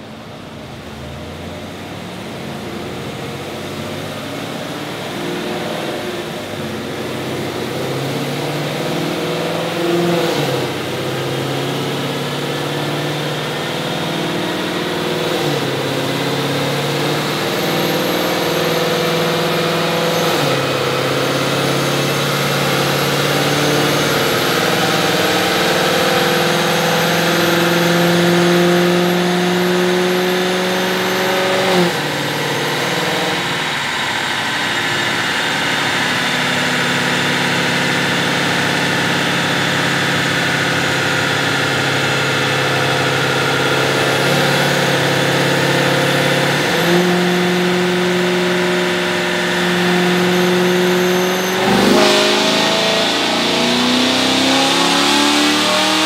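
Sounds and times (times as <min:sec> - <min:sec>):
car engine revving on dyno: 0:00.0 - 0:56.0.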